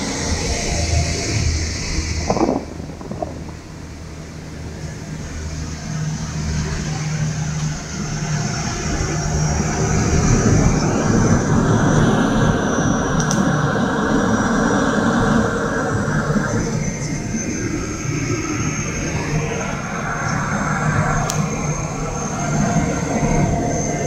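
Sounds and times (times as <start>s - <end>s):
rumble of airflow: 0.0s - 24.0s
thin high whine: 0.0s - 24.0s
turboprop engines droning: 0.0s - 24.0s.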